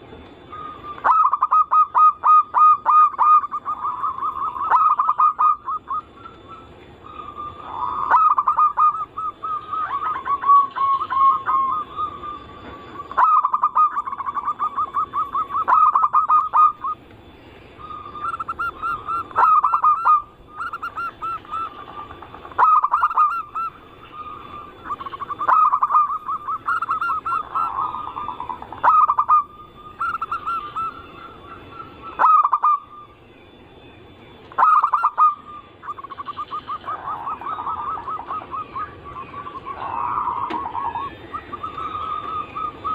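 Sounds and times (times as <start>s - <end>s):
doves cooing in trills: 0.0s - 42.9s.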